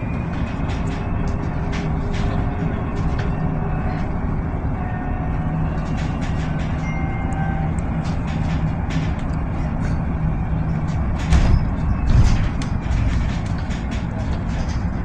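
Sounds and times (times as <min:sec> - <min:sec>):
rattles and knocks: 0:00.0 - 0:04.2, 0:05.5 - 0:15.0
road and tyre rumble: 0:00.0 - 0:15.0.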